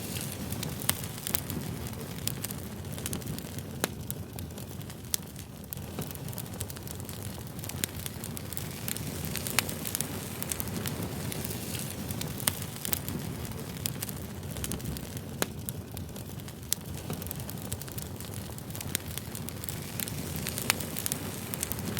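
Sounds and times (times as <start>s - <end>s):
campfire crackling: 0.0s - 21.9s.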